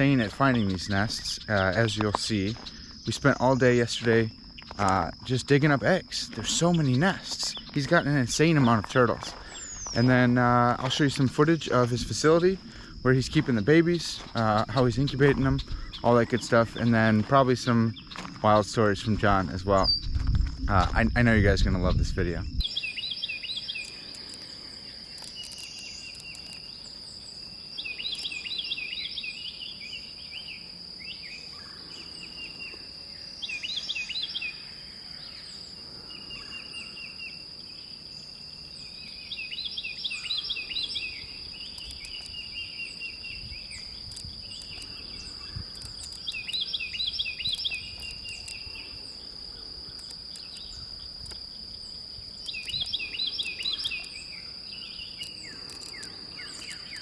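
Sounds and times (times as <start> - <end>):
bird singing chirps: 0.0 - 20.8, 21.5 - 57.0
high-pitched insect drone: 0.0 - 57.0.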